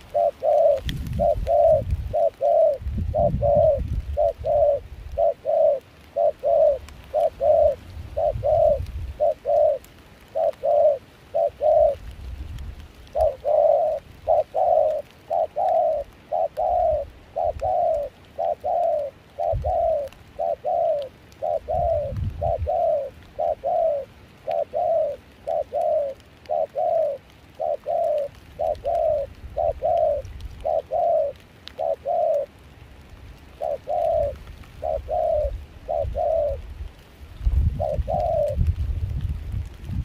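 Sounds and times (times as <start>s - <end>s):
dove cooing: 0.0s - 32.8s, 33.4s - 36.8s, 37.4s - 38.8s.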